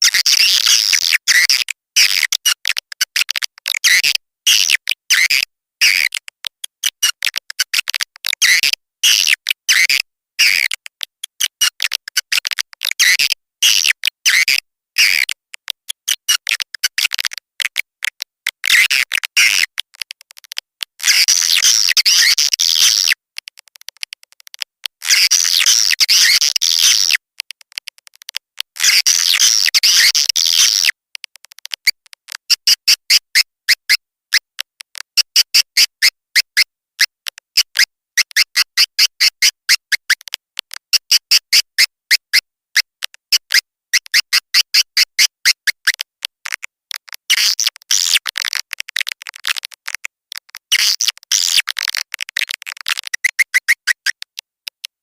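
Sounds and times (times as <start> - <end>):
quick clicking chirps: 0.0 - 54.9.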